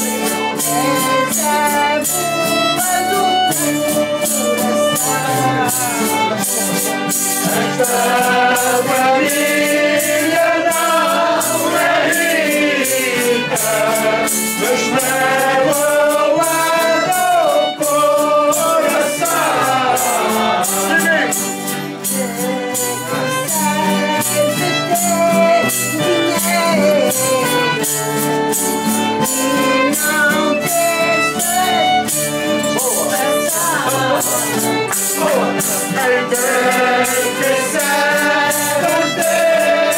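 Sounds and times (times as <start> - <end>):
fiddle: 0.0 - 39.9
group singing: 0.0 - 39.9
jingling percussion beat: 0.0 - 39.9.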